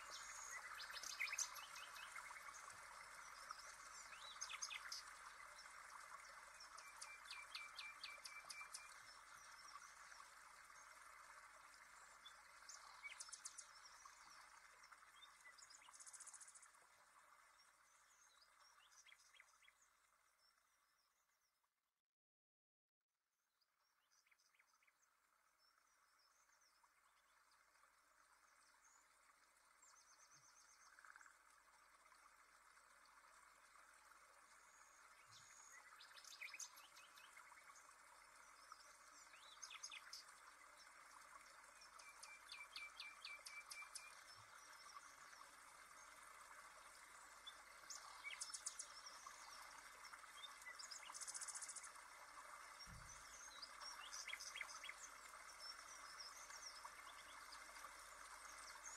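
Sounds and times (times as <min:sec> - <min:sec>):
faint birds chirping: 0:00.0 - 0:21.6, 0:23.6 - 0:58.9.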